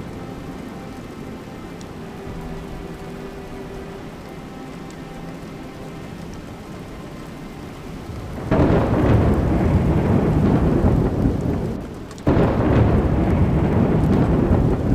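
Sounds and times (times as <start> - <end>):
steady rain: 0.0 - 14.9
thunder rumbling: 0.0 - 14.9.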